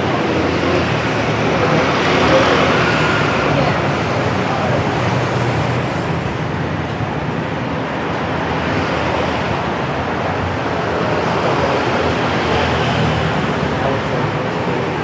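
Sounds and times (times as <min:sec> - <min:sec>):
city street traffic roar: 0:00.0 - 0:15.0.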